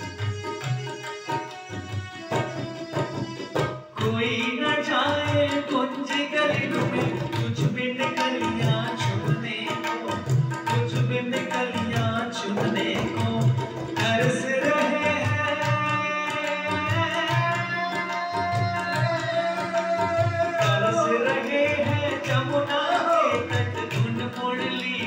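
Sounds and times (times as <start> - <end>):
keyboard accompaniment: 0.0 - 25.0
tabla playing brisk rhythm: 0.0 - 25.0.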